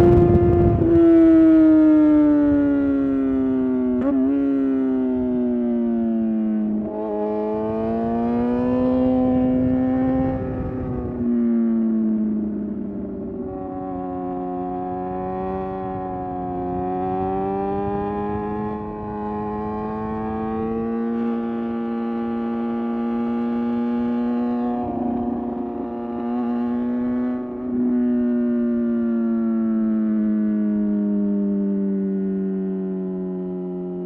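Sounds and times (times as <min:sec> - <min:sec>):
motorcycle engine running: 0:00.0 - 0:01.4, 0:06.0 - 0:33.0
wind and road noise: 0:00.0 - 0:34.0.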